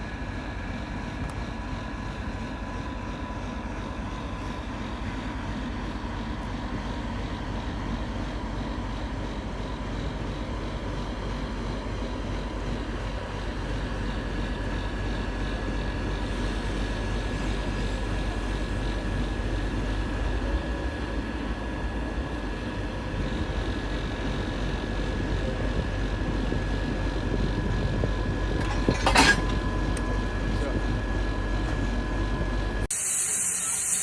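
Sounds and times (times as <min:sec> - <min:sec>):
electric train rumbling: 0:00.0 - 0:34.0
thin steady whine: 0:00.0 - 0:34.0.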